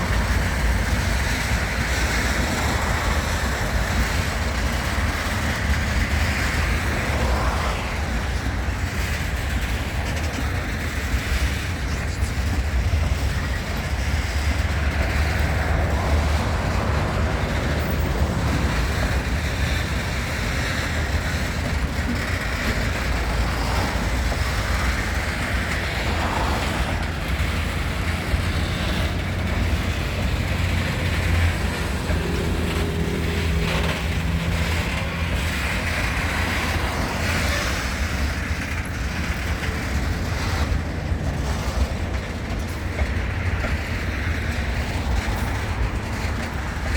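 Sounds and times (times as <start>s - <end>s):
diesel locomotive engine hum: 0.0s - 46.9s.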